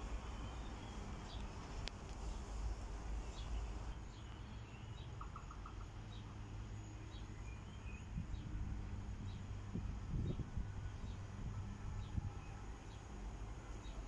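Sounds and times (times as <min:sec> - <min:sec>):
small birds chirping: 0:00.0 - 0:11.3
low rumble of outdoor background: 0:00.0 - 0:14.0.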